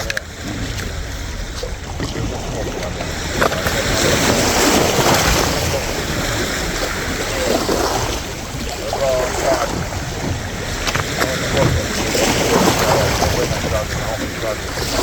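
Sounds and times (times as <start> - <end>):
wind rushing across microphone: 0.0 - 15.0.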